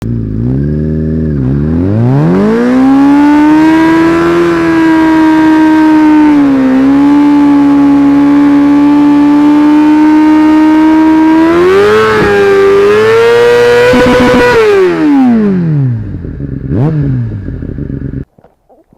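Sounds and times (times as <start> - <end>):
motorcycle engine revving: 0.0 - 18.3.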